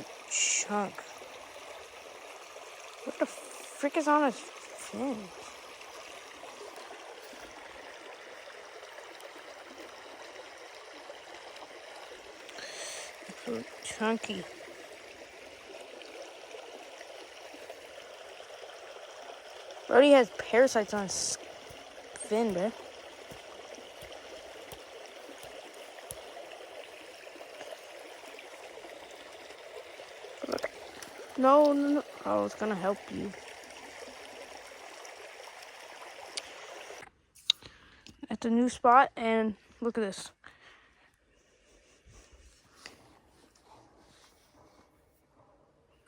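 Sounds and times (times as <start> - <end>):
creek water running: 0.0 - 40.1.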